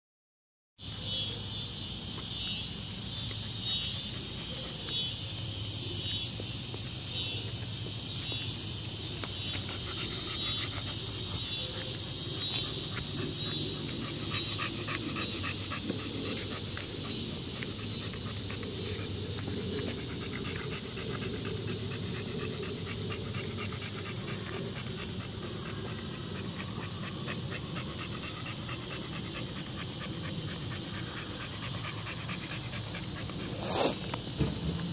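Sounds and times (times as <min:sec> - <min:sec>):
dog panting: 0:03.0 - 0:34.9.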